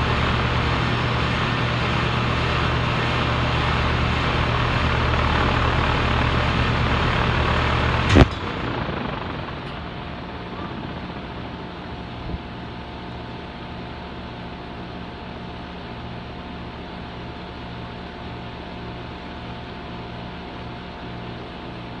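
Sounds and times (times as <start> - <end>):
compressor humming: 0.0 - 21.7.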